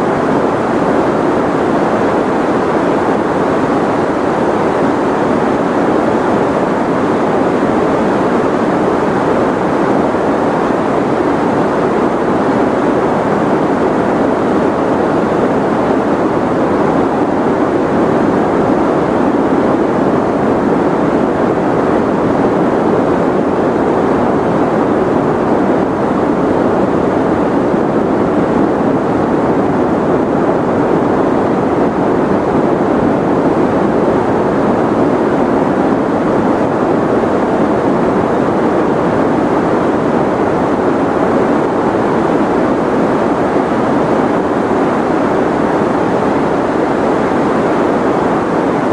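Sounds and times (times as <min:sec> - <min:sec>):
white noise hiss: 0:00.0 - 0:48.9.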